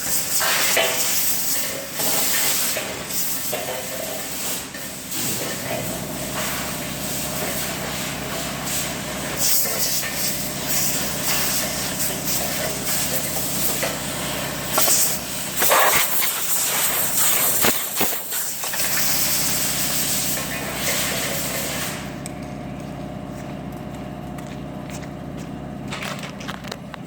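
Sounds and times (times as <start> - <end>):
welding arc hissing and crackling: 0.0 - 22.2
welding arc spitting: 0.0 - 22.4
electrical hum: 0.0 - 27.0.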